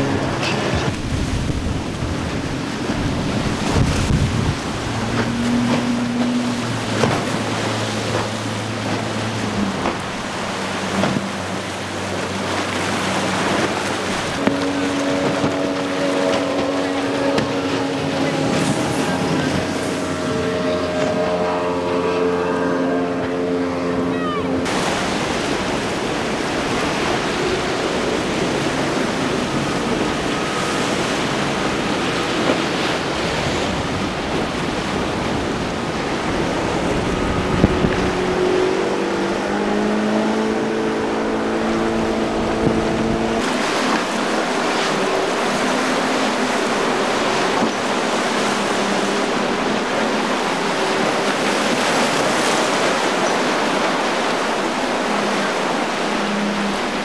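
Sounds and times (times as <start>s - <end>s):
outboard motors running: 0.0s - 57.0s
rush of waves and spray: 0.0s - 57.0s.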